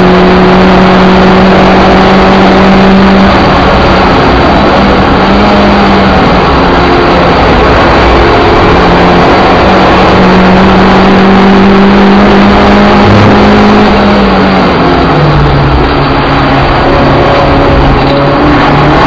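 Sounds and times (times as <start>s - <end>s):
car engine at high revs: 0.0s - 19.0s
road and wind noise: 0.0s - 19.0s.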